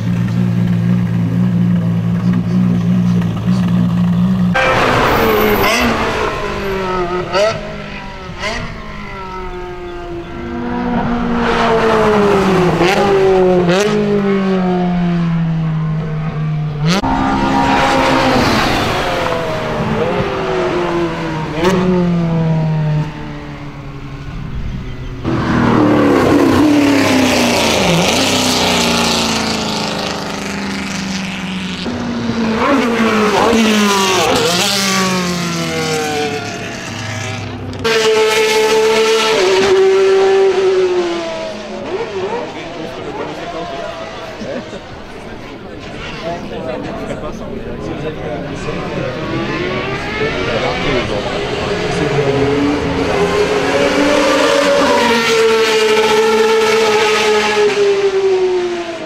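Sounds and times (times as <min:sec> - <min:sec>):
sports car engines revving: 0:00.0 - 0:59.0.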